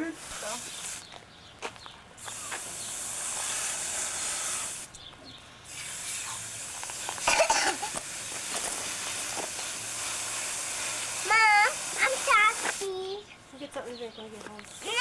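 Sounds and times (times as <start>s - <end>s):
high-pitched hiss: 0.0s - 13.4s, 14.1s - 15.0s.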